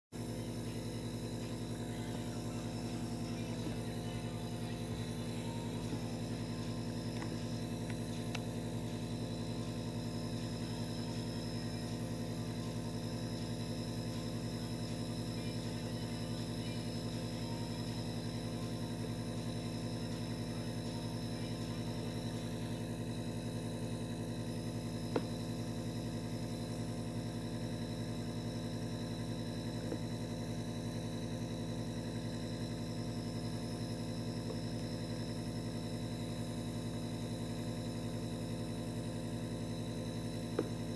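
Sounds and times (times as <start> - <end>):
steady motor hum: 0.0 - 40.9.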